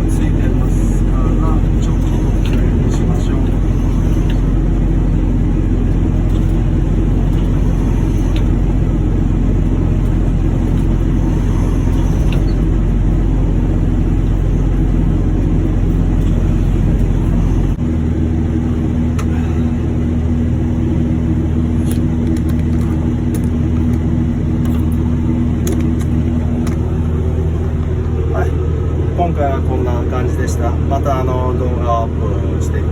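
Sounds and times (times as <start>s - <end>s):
heavy machinery humming: 0.0s - 32.9s.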